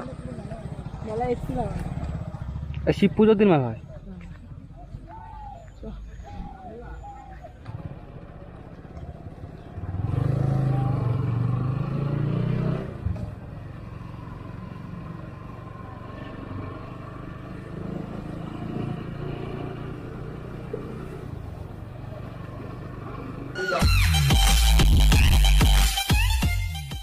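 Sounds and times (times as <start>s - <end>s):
motorcycle engine on road: 0.0s - 23.8s.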